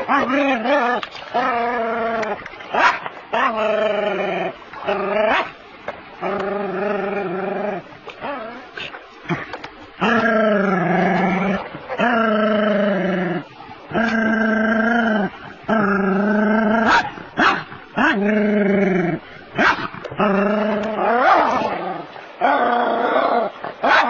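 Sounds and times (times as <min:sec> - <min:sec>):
dog growling: 0:00.0 - 0:05.6, 0:06.2 - 0:24.0.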